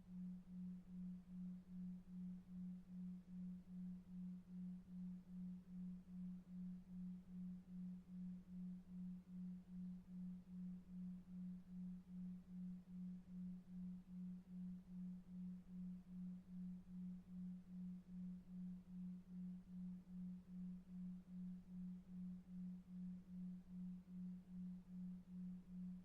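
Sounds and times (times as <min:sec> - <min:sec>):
low pulsing pure tone: 0:00.0 - 0:26.0.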